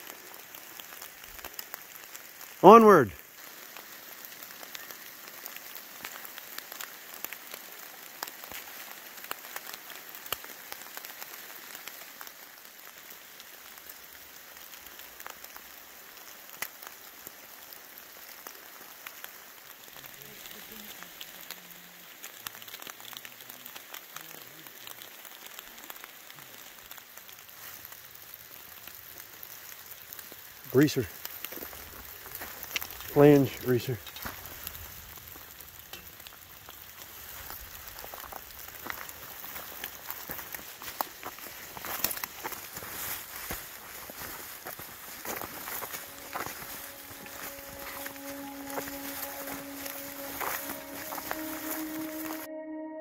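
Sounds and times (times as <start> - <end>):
light rain on foliage: 0.0 - 52.5.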